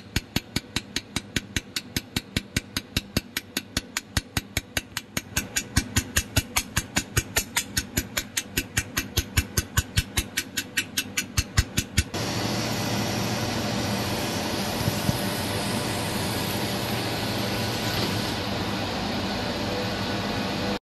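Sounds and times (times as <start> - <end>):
machine and fan whir: 0.0 - 20.8.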